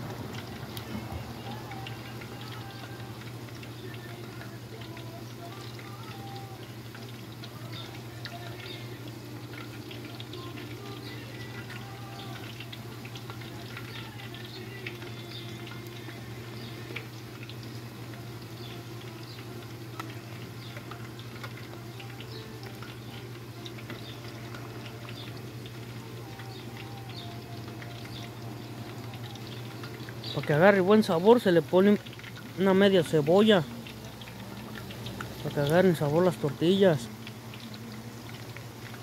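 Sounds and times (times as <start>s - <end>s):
tortillas sizzling in hot oil: 0.0s - 39.0s.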